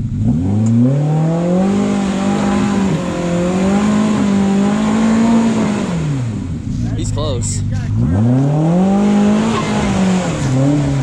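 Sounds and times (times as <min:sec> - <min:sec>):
utv engine revving: 0:00.0 - 0:11.0.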